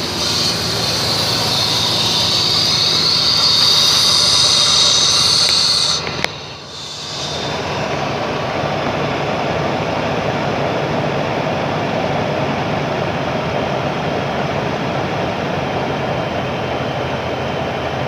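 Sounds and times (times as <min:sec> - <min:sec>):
car engine running: 0:00.0 - 0:15.1.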